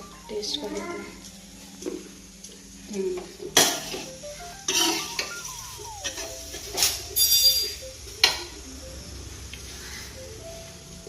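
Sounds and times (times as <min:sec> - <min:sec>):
faint frying sizzle: 0:00.0 - 0:11.0.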